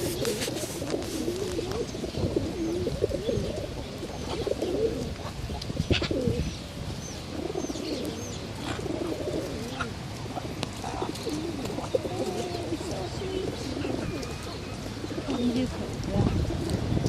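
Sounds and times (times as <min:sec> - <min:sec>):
pigeons cooing: 0:00.0 - 0:17.0
small birds chirping: 0:00.0 - 0:17.0.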